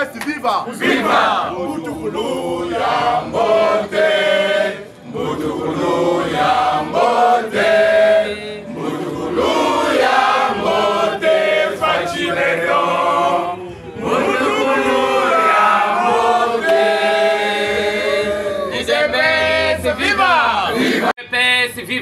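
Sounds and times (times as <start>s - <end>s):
crowd singing a chant: 0.7s - 21.2s.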